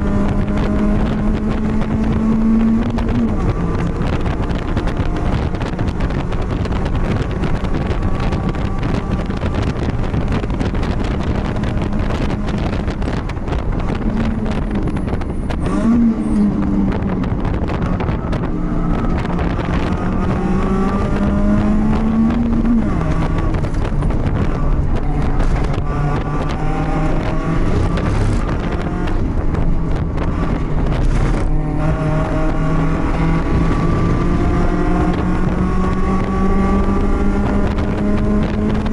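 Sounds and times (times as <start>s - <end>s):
race car engine running hard: 0.0s - 38.9s
wind noise: 0.0s - 38.9s.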